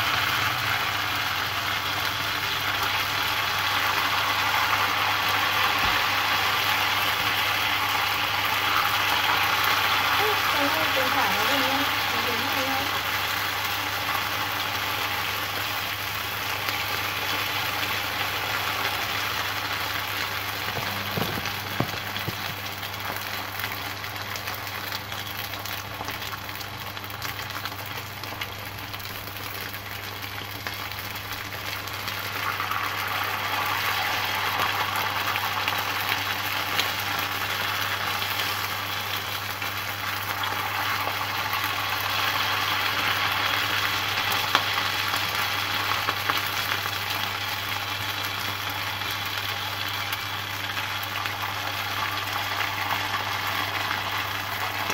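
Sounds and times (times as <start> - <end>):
oil sizzling: 0.0 - 54.9.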